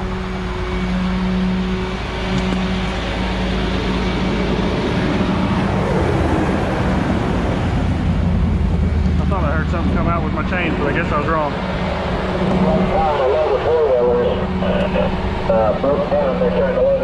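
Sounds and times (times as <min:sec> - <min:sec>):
traffic passing close by: 0:00.0 - 0:17.0.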